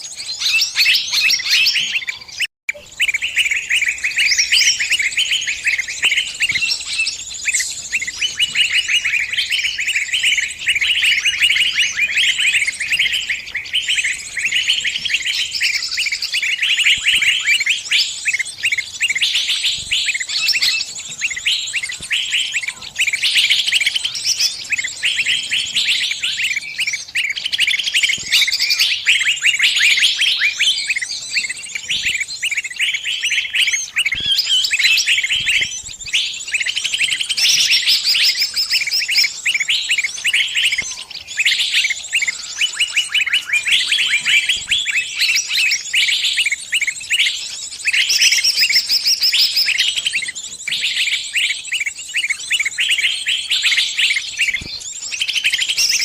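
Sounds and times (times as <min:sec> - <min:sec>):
small bird distress chirping: 0:00.0 - 0:56.0.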